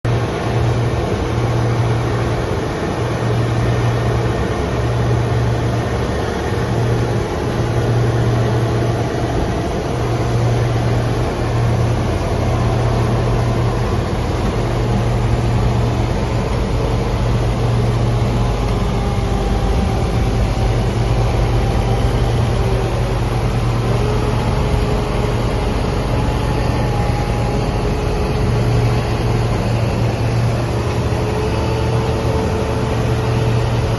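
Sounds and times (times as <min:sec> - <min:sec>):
diesel engine drone: 0:00.0 - 0:33.9
machinery whining: 0:00.1 - 0:33.9.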